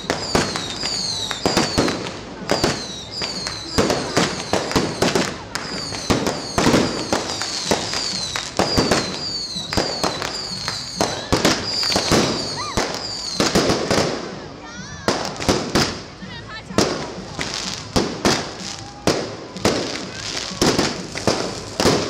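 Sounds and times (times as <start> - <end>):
fireworks falling whistles: 0.0 - 14.1, 17.2 - 22.0
fireworks bangs: 0.0 - 22.0.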